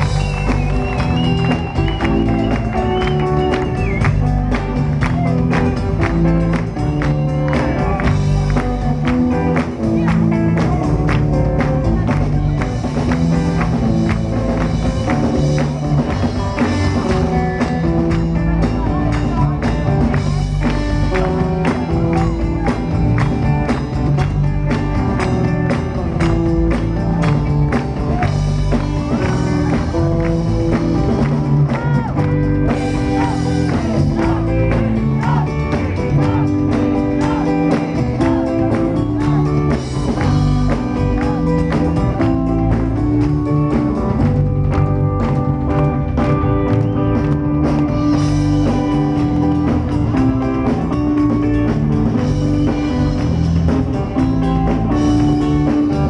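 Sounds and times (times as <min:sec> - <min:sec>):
rock and roll band playing: 0:00.0 - 0:56.0.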